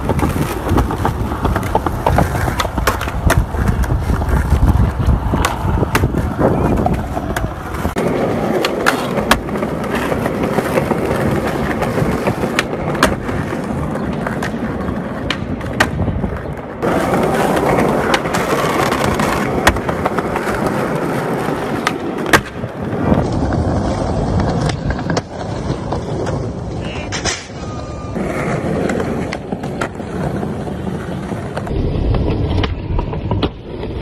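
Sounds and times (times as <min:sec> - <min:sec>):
skateboard landing: 0:00.0 - 0:34.0
skateboard tail clacking: 0:00.0 - 0:34.0
skateboard wheels rolling on concrete: 0:00.0 - 0:34.0.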